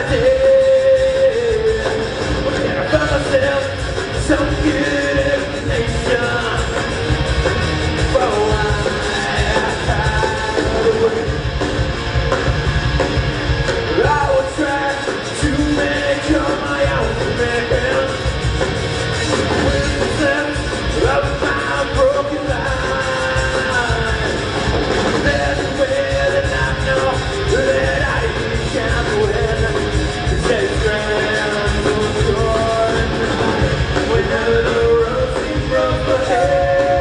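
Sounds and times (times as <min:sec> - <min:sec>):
lead vocal: 0:00.0 - 0:11.7, 0:13.7 - 0:18.6, 0:19.2 - 0:37.0
bass guitar: 0:00.0 - 0:37.0
distorted electric guitars: 0:00.0 - 0:37.0
drums: 0:00.0 - 0:37.0.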